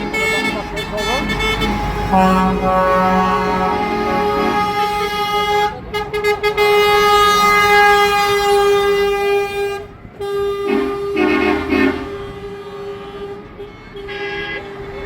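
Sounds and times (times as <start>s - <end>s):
long vehicle horn note: 0.0s - 14.7s
deeper horn honking: 0.0s - 15.0s.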